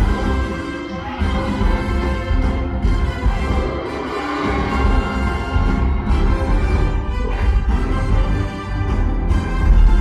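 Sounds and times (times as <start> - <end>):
orchestral theme music: 0.0 - 10.0.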